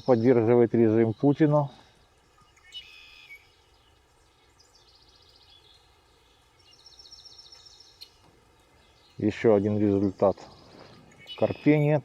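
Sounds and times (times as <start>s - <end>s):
quiet outdoor background: 0.0s - 12.0s
songbird calls and trills: 0.0s - 12.0s.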